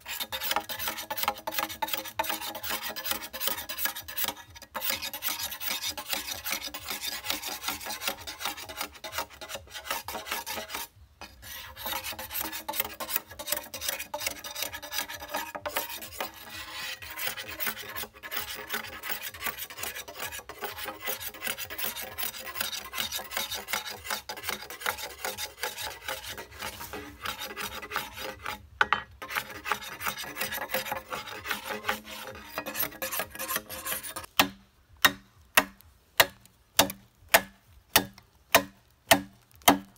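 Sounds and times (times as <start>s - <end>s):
machete scraping bamboo: 0.0s - 39.9s.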